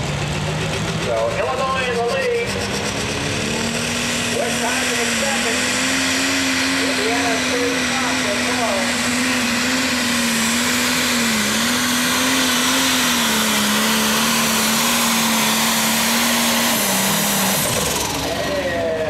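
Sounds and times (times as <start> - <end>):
tractor diesel engine at full load: 0.0 - 19.0.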